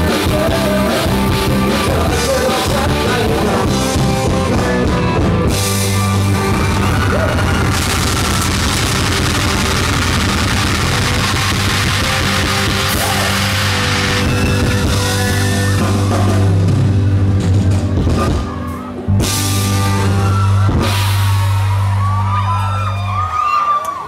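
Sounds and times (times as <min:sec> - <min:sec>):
live rock band playing: 0:00.0 - 0:23.3
drums: 0:00.0 - 0:24.0
electric guitar: 0:00.0 - 0:24.0.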